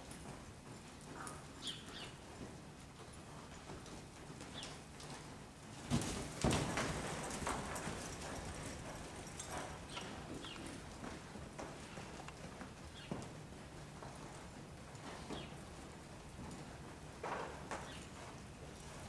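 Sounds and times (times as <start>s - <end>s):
horse hoofbeats on soft dirt: 0.0s - 19.0s.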